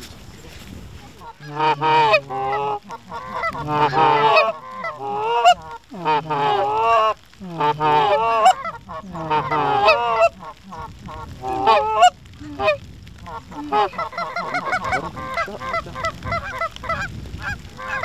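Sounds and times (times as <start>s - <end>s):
geese honking: 1.2s - 18.0s.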